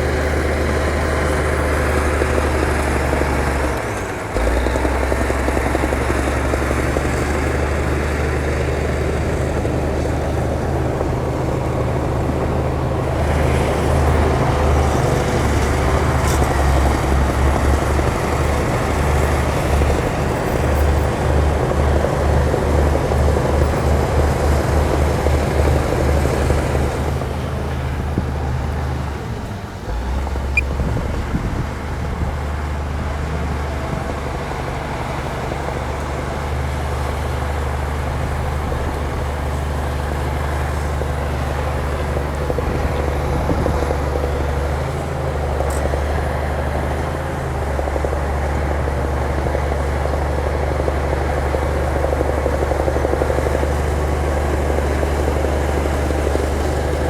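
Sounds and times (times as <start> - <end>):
heavy machine diesel engine: 0.0 - 57.0.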